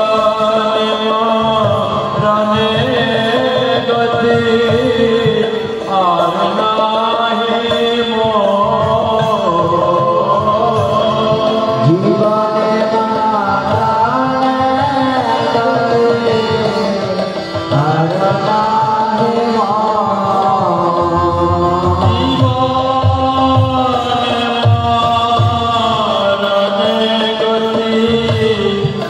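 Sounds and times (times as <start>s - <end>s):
man singing: 0.0s - 29.0s
steady held accompaniment: 0.0s - 29.0s.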